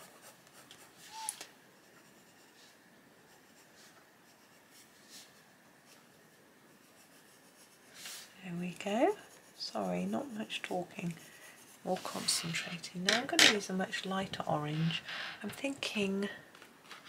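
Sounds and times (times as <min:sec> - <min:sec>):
pencil scratching on paper: 0:00.0 - 0:15.8.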